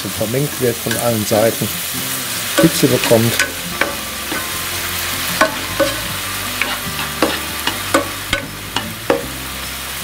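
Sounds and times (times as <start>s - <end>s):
mushrooms sizzling in frying pan: 0.0s - 10.0s.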